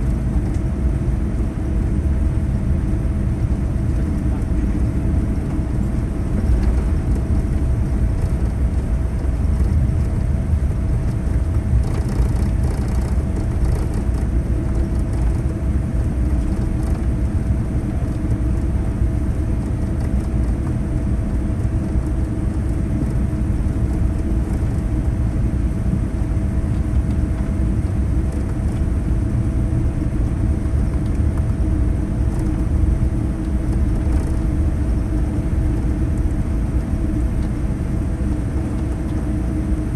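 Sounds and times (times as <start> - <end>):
aircraft cabin rumble: 0.0 - 39.9
constant hum tone: 0.0 - 39.9.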